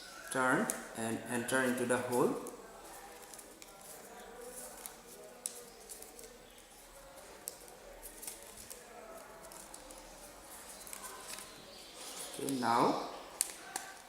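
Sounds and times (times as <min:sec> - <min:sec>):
stiff paper rustling and ticking: 0:02.0 - 0:12.6, 0:13.2 - 0:14.0.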